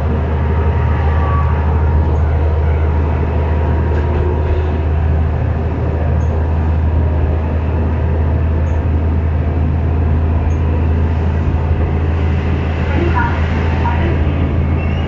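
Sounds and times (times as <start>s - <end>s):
railcar engine drone: 0.0s - 15.0s
wheel and rail noise: 0.0s - 15.0s.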